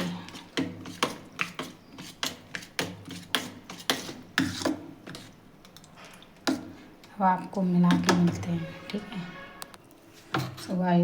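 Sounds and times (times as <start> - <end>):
utensil stirring batter in bowl: 0.0 - 9.2.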